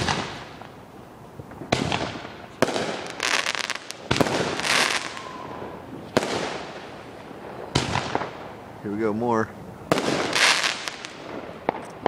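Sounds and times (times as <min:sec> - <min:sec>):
fireworks bangs: 0:00.0 - 0:00.8, 0:01.4 - 0:12.0
fireworks crackling: 0:00.0 - 0:12.0.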